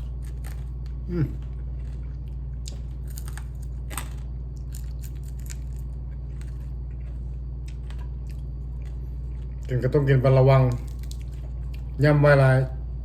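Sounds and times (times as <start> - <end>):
chewing crunches: 0.0 - 9.8, 10.6 - 12.0
steady low hum: 0.0 - 13.0.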